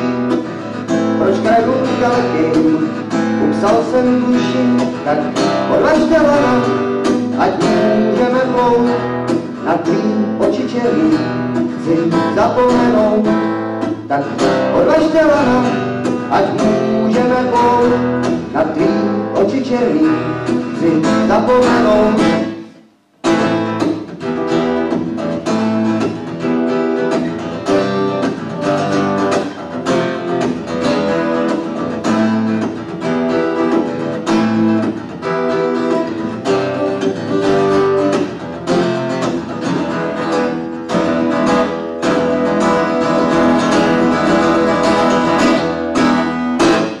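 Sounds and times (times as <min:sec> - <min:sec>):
acoustic guitar strumming chords: 0:00.0 - 0:47.0.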